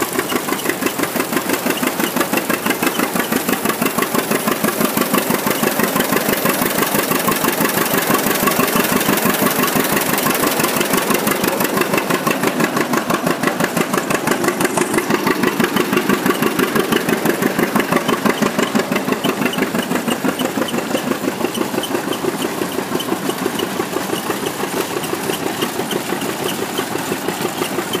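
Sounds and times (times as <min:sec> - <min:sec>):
engine running with pulsing beat: 0:00.0 - 0:28.0.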